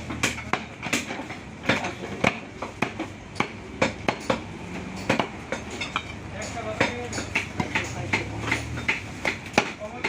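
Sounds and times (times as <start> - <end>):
market background noise: 0.0 - 10.0
cleaver chopping on wooden block: 0.1 - 5.7, 6.8 - 10.0.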